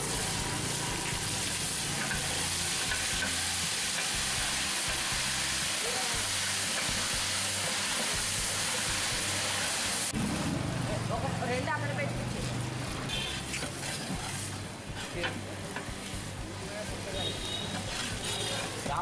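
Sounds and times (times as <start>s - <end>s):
oil and onions sizzling loudly: 0.0s - 19.0s.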